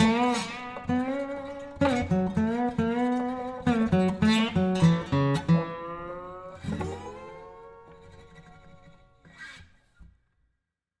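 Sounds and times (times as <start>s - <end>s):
plucked acoustic guitar: 0.0s - 9.7s.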